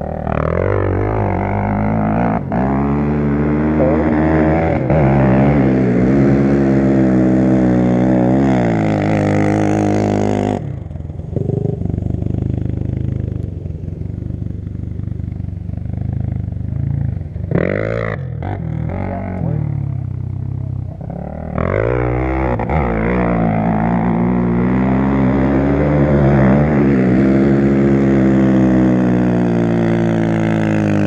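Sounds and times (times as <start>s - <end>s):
quad engine revving: 0.0s - 31.0s.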